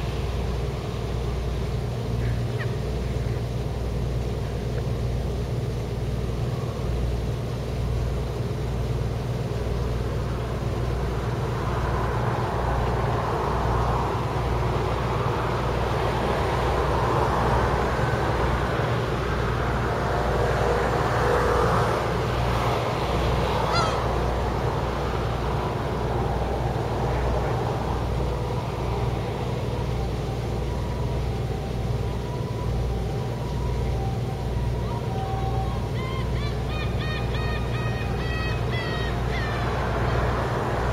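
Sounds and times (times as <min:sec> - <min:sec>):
low engine drone: 0:00.0 - 0:40.9
rushing noise: 0:00.0 - 0:40.9.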